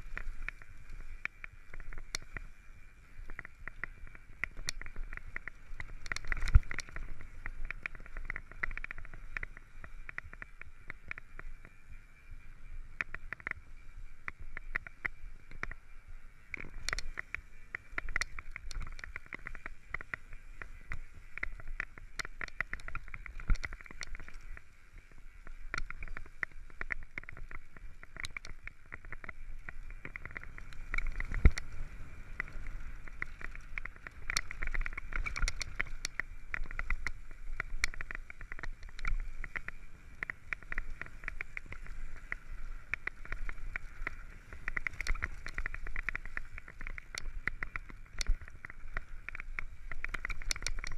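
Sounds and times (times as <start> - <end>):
bike rattling over stones: 0.0 - 12.0, 12.7 - 50.9
steady hiss: 0.0 - 50.9.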